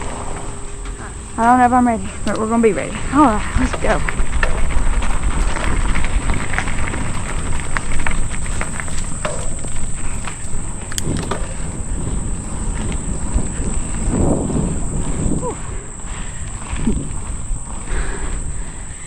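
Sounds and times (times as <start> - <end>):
bike clicks and rattles: 0.0 - 19.0
high-pitched insect drone: 0.0 - 19.0
mountain bike rumbling on dirt: 0.0 - 19.0.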